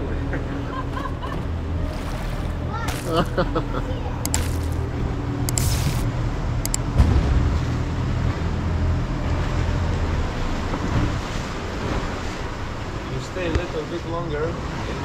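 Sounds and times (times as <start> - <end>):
boat engine humming: 0.0 - 15.0
wind: 0.0 - 15.0
water noise: 0.5 - 15.0.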